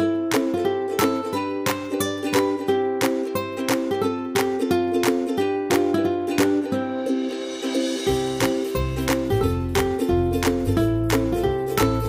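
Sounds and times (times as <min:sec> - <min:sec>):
plucked-string tune with beat: 0:00.0 - 0:12.0.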